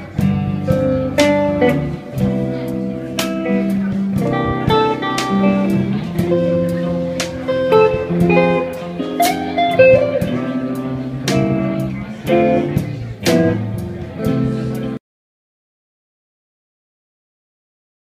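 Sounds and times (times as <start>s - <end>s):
drum kit: 0.0s - 15.0s
electric guitar: 0.0s - 15.0s.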